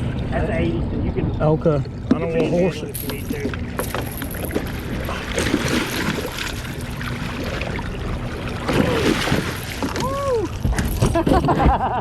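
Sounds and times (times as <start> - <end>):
steady low rumble: 0.0 - 2.1, 2.7 - 11.2
water sloshing against boat: 2.0 - 12.0.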